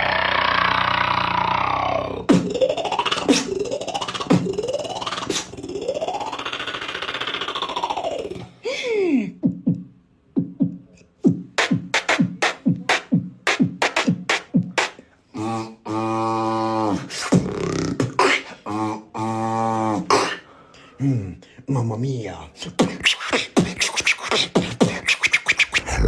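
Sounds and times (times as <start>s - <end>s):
vocal beatboxing: 0.0s - 8.6s, 9.3s - 21.4s, 22.5s - 26.0s.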